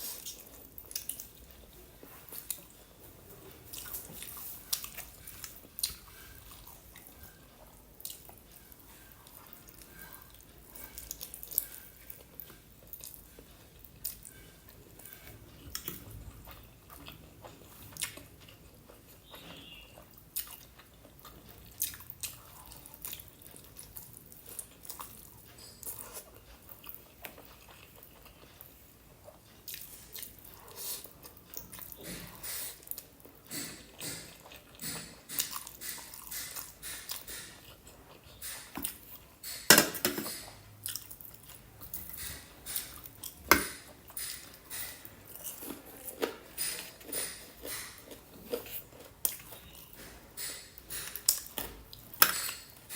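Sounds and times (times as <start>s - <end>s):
person chewing crispy chicken: 3.5s - 39.3s, 40.8s - 52.9s.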